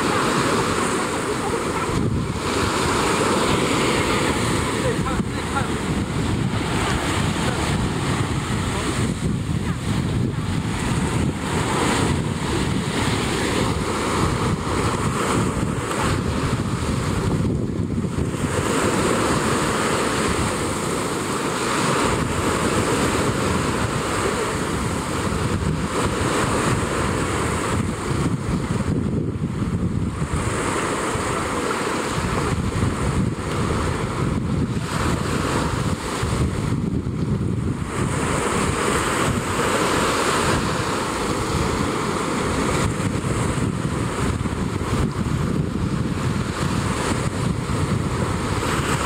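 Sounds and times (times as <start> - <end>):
waves washing against rocks: 0.0 - 49.0
wind on microphone: 0.0 - 49.0.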